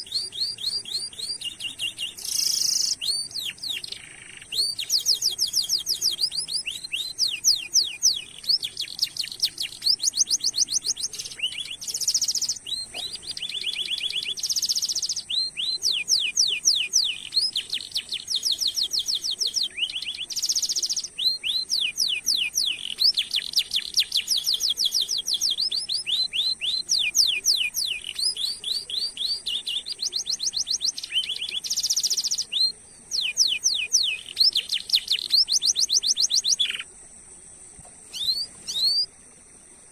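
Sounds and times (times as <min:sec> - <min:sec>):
canary singing trills: 0:00.0 - 0:37.0, 0:38.0 - 0:39.1.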